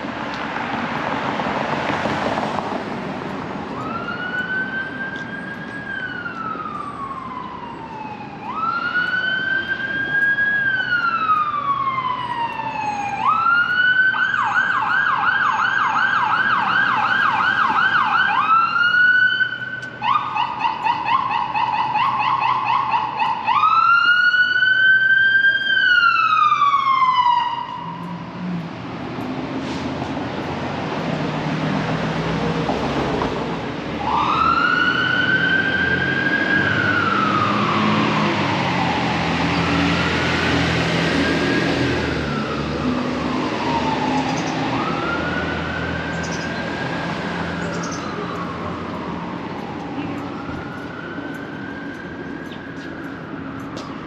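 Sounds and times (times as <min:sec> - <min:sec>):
emergency vehicle siren: 0:00.0 - 0:54.0
street traffic: 0:00.0 - 0:54.0.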